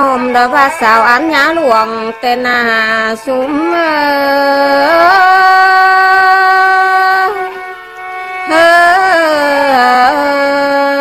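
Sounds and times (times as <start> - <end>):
folk song melody: 0.0 - 11.0.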